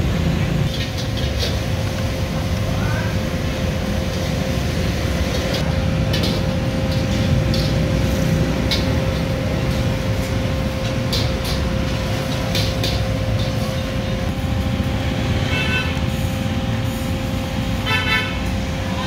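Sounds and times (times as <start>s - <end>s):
constant hum: 0.0s - 19.0s
traffic rumble: 0.0s - 19.0s.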